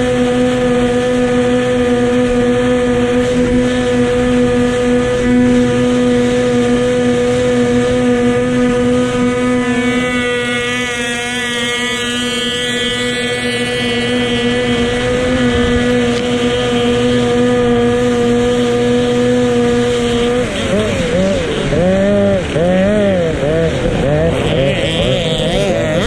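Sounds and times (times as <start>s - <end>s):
racing motorboat engine: 0.0s - 26.0s.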